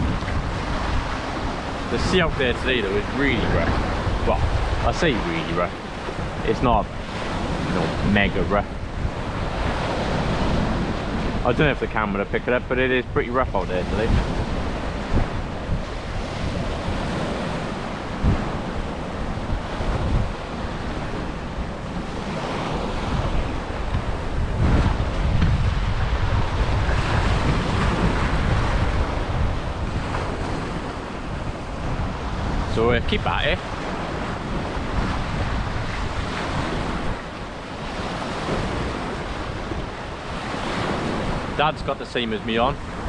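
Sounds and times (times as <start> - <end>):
waves breaking on shore: 0.0 - 43.0
wind buffeting microphone: 0.0 - 43.0.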